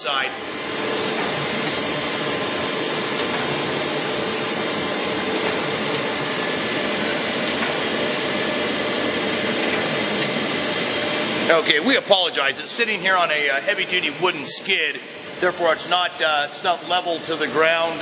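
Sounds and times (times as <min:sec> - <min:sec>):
surface grinder whirring: 0:00.0 - 0:16.1.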